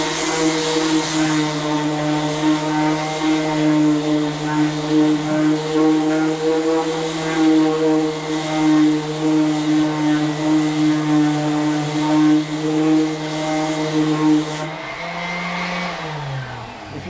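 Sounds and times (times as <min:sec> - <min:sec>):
power sander whining: 0:00.0 - 0:17.0.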